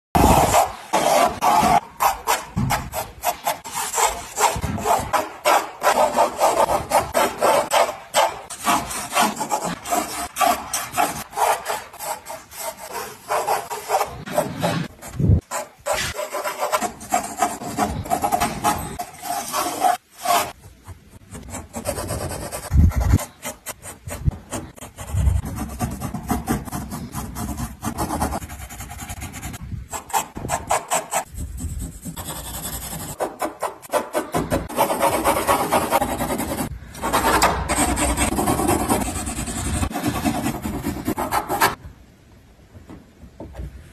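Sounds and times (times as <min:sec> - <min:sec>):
pencil scratching on paper: 0:00.2 - 0:41.8.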